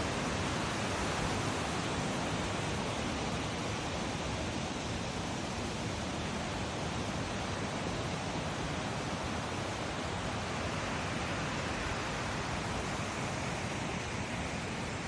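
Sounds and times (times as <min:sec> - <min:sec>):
mountain water rushing: 0:00.0 - 0:15.0.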